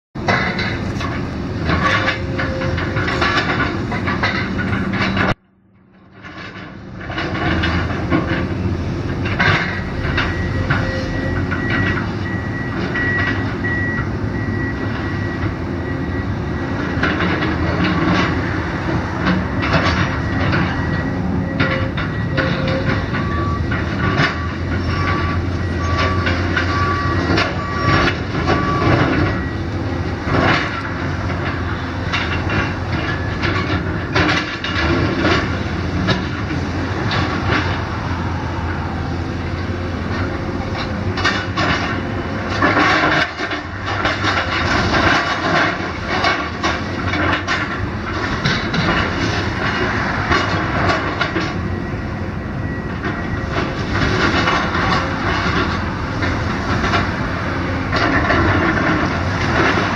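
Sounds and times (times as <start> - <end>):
diesel engine running under load: 0.2 - 59.9.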